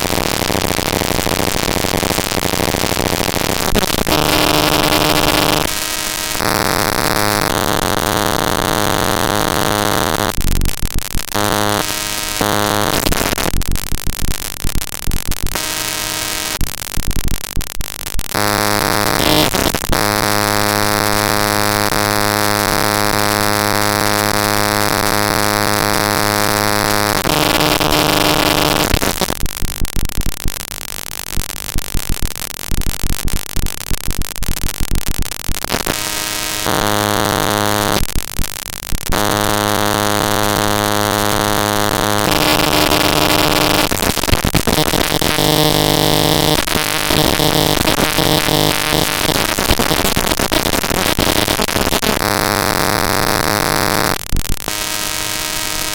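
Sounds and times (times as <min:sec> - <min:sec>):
buzzing droning digital tones: 0:00.0 - 0:55.9
hissing crackling static: 0:00.0 - 0:55.9.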